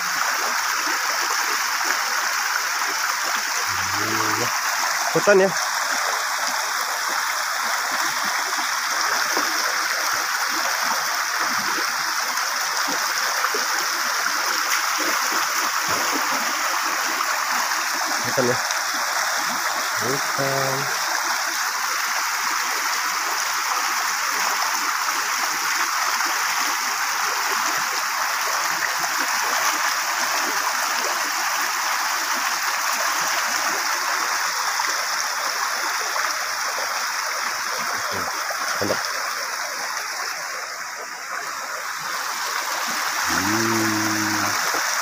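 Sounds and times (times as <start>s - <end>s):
fast stream rushing: 0.0s - 45.0s.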